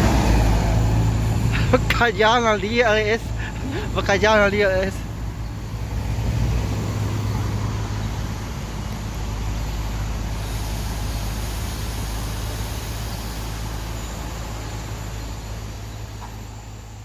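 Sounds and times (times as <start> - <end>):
road noise: 0.0 - 17.0
truck engine running: 0.0 - 17.0.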